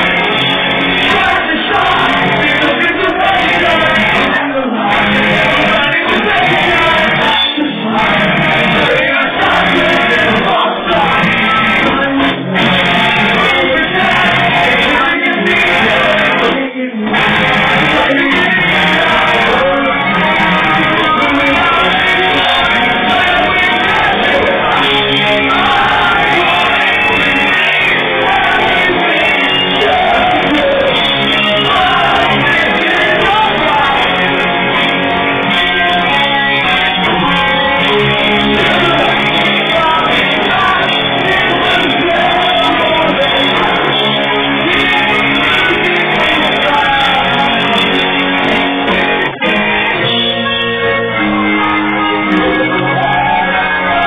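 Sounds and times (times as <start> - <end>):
live rock band playing: 0.0 - 54.0
sung and shouted vocals: 0.0 - 54.0.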